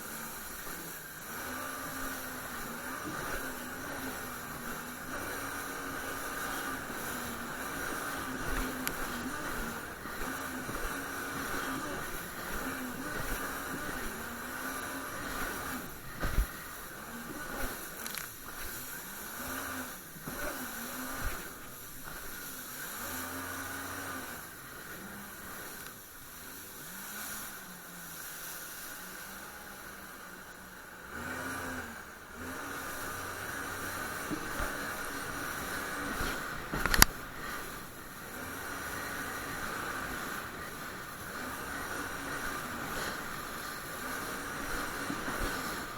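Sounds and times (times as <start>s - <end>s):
jet ski engine revving: 0.0s - 45.9s
rushing water hiss: 0.0s - 45.9s.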